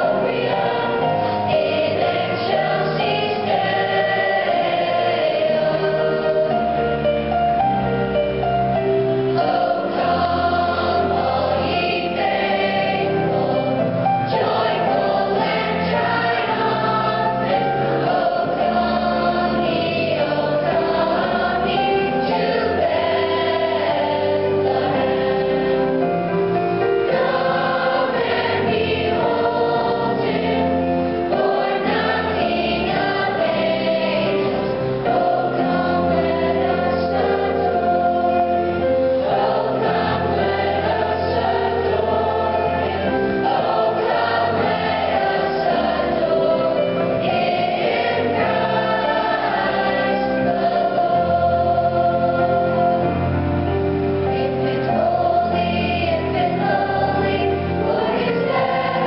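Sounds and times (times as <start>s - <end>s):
children's choir singing: 0.0s - 7.7s, 8.7s - 59.0s.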